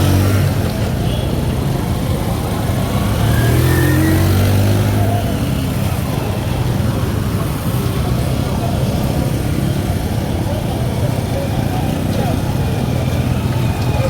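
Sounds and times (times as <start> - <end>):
street traffic: 0.0 - 14.0
vehicle engine running close by: 0.0 - 14.0.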